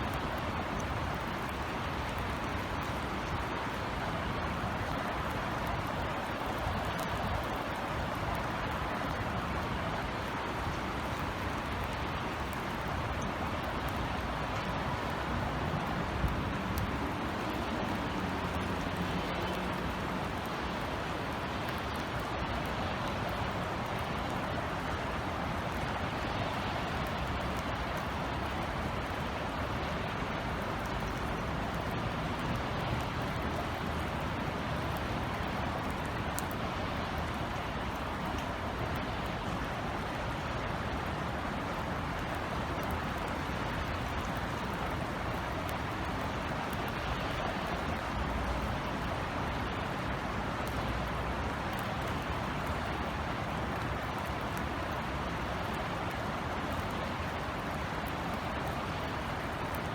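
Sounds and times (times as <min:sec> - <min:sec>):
raindrops ticking: 0:00.0 - 0:59.9.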